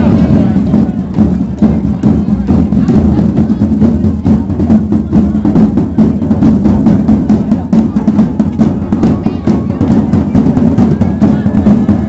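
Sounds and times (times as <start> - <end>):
marching drums playing: 0.0 - 12.0.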